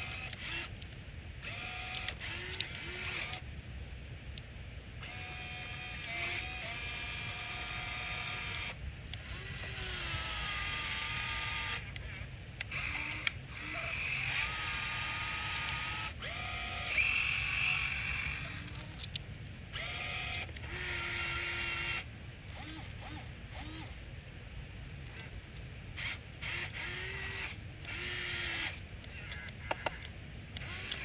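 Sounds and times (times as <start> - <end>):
electric motors whining: 0.0 - 3.5, 4.9 - 24.1, 25.0 - 31.0.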